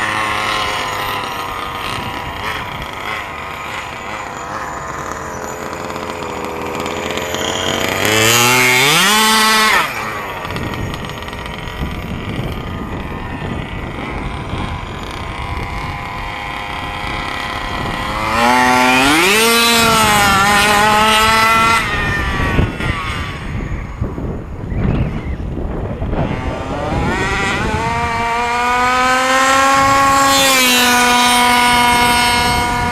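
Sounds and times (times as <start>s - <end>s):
faint engine drone: 0.0s - 32.9s
rc buggy engine revving: 0.0s - 32.9s.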